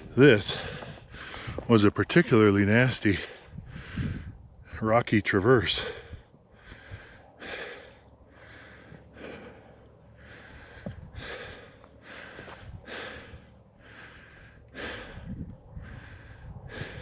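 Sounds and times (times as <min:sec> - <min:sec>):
person breathing hard: 0:00.4 - 0:01.7, 0:03.2 - 0:04.8, 0:05.8 - 0:17.0.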